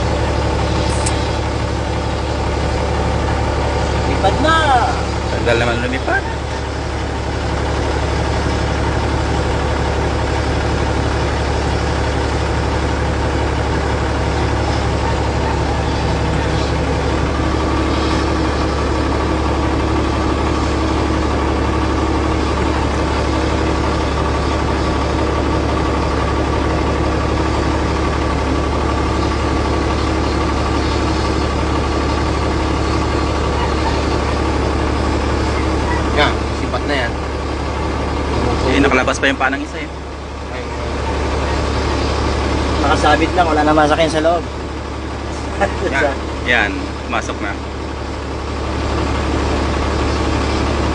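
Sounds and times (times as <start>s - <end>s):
engine drone inside cab: 0.0s - 50.9s
high-pitched whine: 0.0s - 50.9s.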